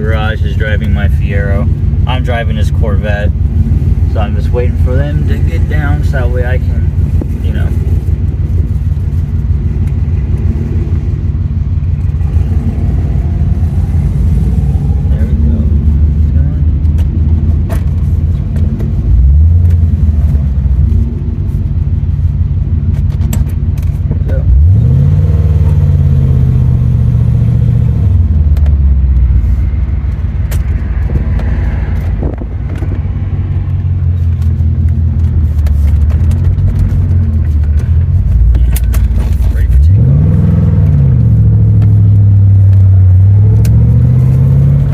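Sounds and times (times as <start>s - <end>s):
car engine rumbling: 0.0s - 44.9s.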